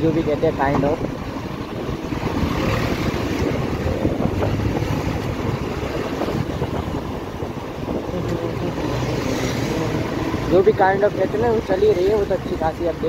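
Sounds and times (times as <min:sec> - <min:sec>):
city traffic: 0:00.0 - 0:13.0
motorcycle engine: 0:00.0 - 0:13.0
road noise: 0:00.0 - 0:13.0
wind rushing over microphone: 0:00.0 - 0:13.0.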